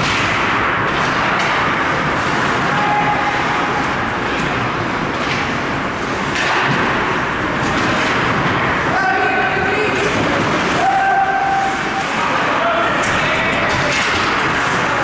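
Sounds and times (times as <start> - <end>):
ice hockey rink noise: 0.0 - 15.0.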